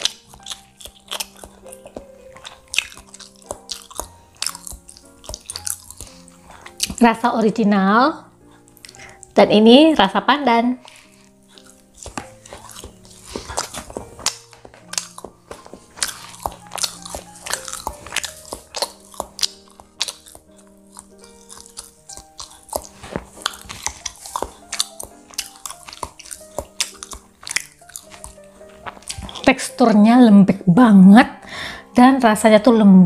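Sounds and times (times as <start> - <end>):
chewing with wet mouth clicks: 0.0 - 7.1, 8.4 - 9.4, 10.8 - 29.5
background music: 0.0 - 33.0.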